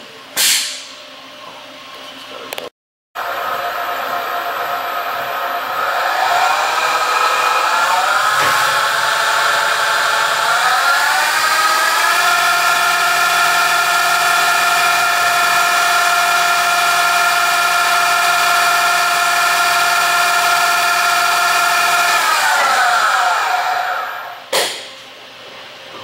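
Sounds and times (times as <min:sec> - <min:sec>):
machine spindle whining: 0:03.2 - 0:24.4.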